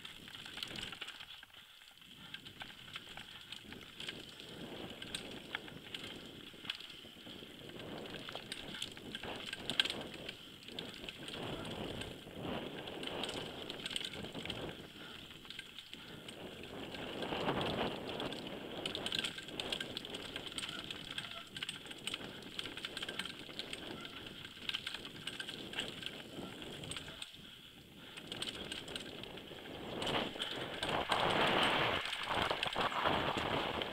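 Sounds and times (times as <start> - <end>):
bike chain and frame rattling: 0.0 - 33.9
rushing wind noise: 3.2 - 33.9.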